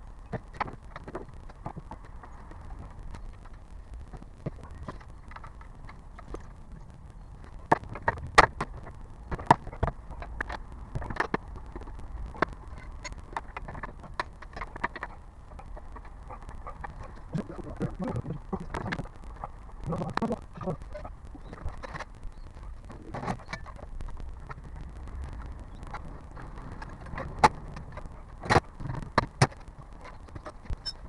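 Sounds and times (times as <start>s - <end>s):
low road rumble: 0.0s - 31.0s.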